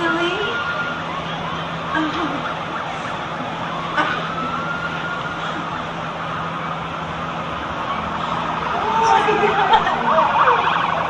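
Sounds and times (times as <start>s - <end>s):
city noise: 0.0s - 11.0s
sirens wailing: 0.0s - 11.0s.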